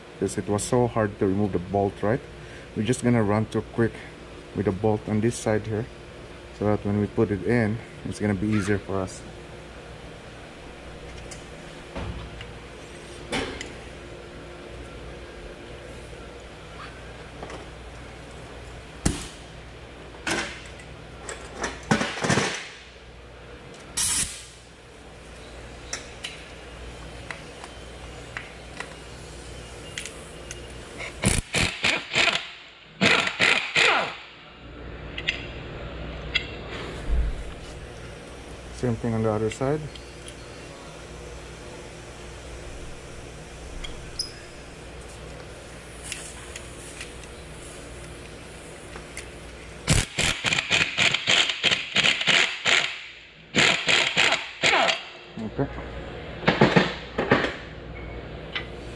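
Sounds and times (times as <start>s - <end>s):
low shop hum: 0.0s - 58.9s.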